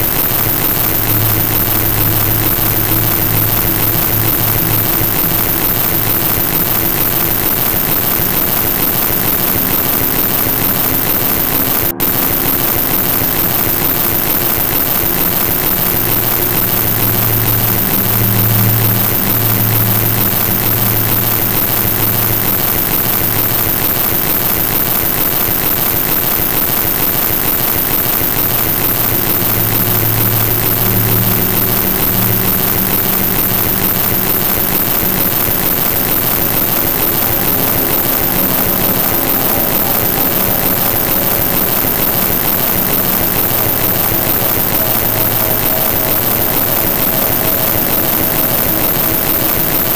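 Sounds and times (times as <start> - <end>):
faint low humming tones: 0.0 - 49.9
loud steady rushing noise: 0.0 - 49.9.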